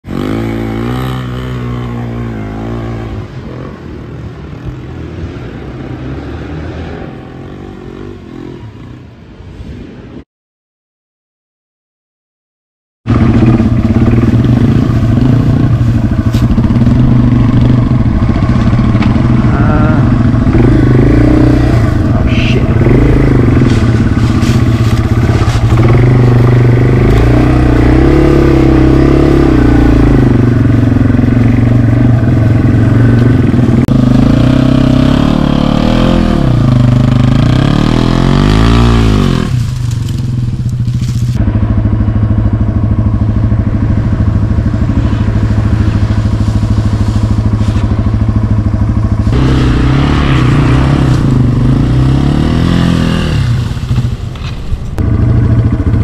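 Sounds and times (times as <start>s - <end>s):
motorcycle engine revving: 0.0s - 9.1s, 13.1s - 56.0s.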